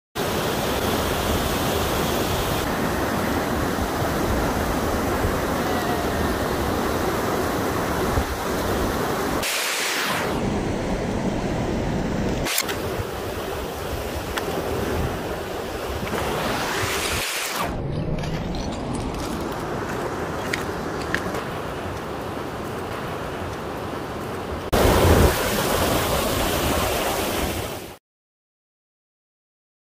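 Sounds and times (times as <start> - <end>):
mountain stream rushing: 0.2 - 28.0.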